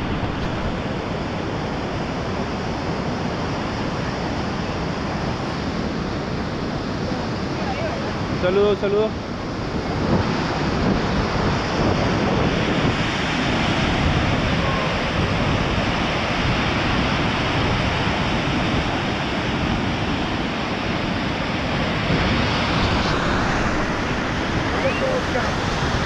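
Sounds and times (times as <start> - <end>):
river rushing: 0.0 - 26.0
waterfall roaring: 0.0 - 26.0
wind on microphone: 0.0 - 26.0.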